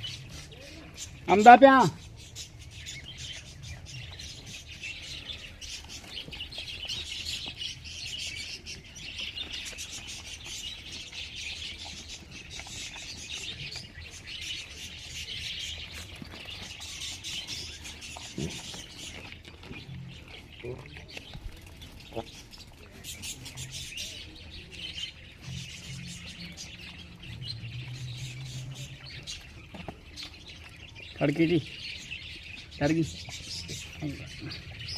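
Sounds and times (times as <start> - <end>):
small birds chirping and twittering: 0.0 - 34.9.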